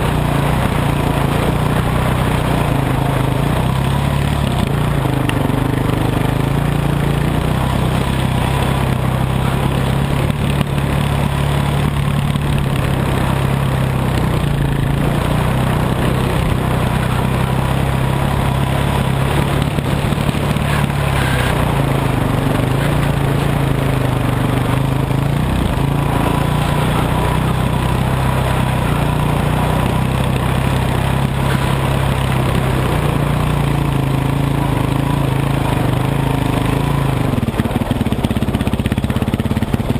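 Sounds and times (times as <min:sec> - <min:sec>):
continuous rushing noise: 0:00.0 - 0:39.9
dirt bike engine running: 0:00.0 - 0:39.9.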